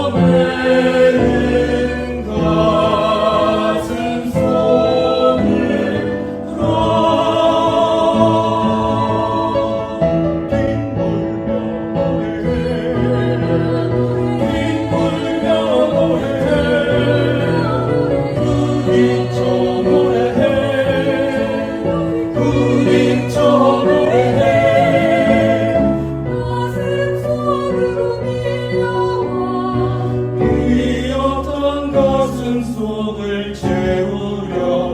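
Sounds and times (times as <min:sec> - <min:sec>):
piano accompaniment: 0:00.0 - 0:34.9
vocal ensemble singing in harmony: 0:00.0 - 0:34.9.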